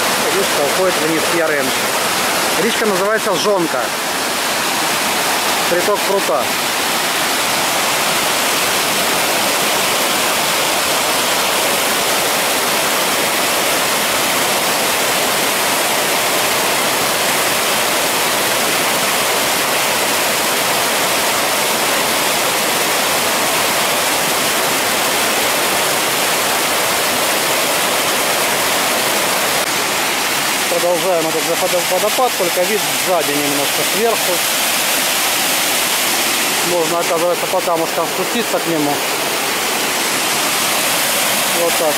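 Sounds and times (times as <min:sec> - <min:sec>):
water rushing over boulders: 0:00.0 - 0:41.9.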